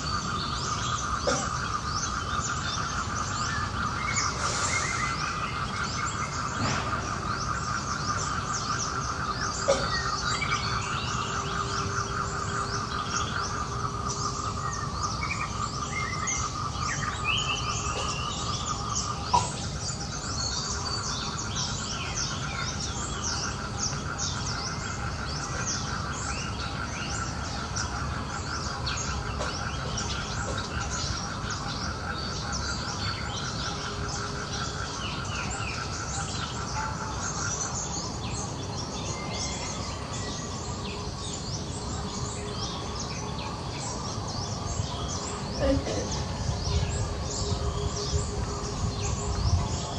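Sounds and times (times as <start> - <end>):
birds chirping: 0.0 - 49.9
pulsing insect drone: 0.0 - 49.9.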